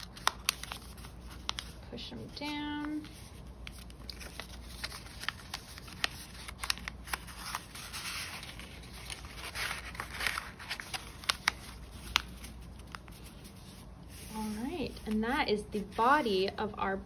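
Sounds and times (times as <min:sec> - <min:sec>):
paper rustling and sliding: 0:00.0 - 0:01.8, 0:02.8 - 0:15.2
paper crackling as creased: 0:00.0 - 0:15.2.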